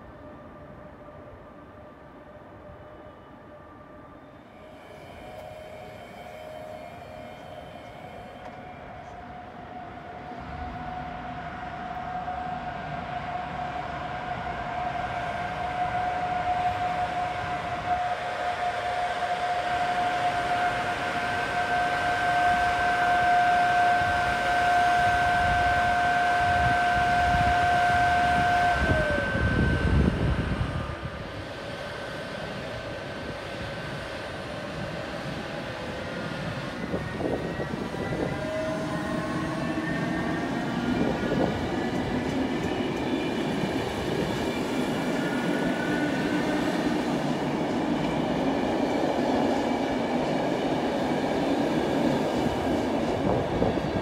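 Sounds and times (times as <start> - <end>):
electric train whine: 0.0 - 54.0.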